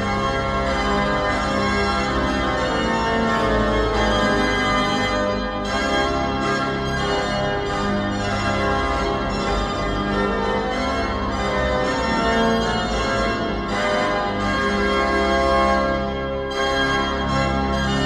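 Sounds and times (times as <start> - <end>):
organ playing sustained chords: 0.0 - 18.0.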